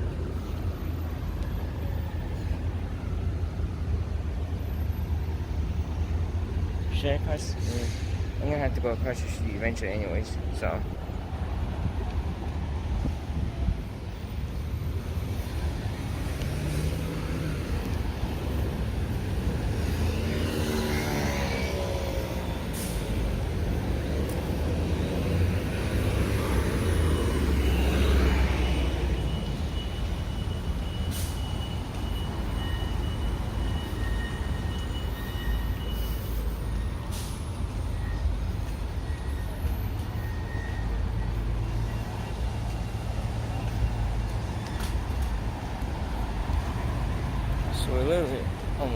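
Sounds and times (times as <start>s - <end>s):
cars passing: 0.0s - 48.9s
road traffic rumble: 0.0s - 48.9s.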